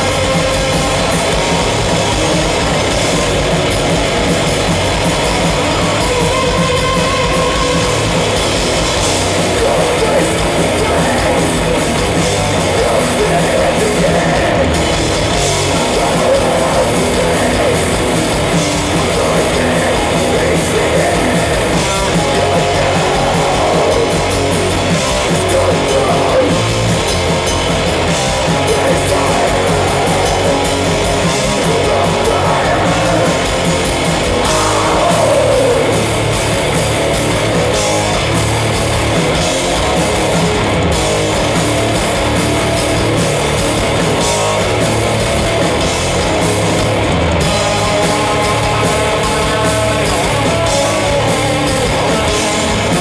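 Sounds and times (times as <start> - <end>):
heavy metal band playing live: 0.0 - 53.0.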